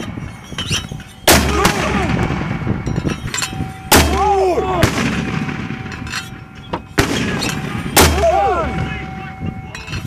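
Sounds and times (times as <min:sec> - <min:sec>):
mortar report: 0:01.3 - 0:10.0.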